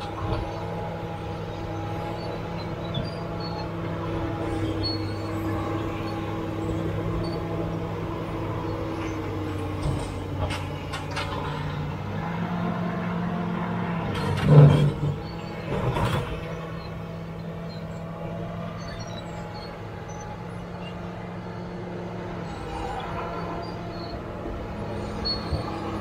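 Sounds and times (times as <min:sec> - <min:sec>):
bulldozer diesel engine under load: 0:00.0 - 0:26.0.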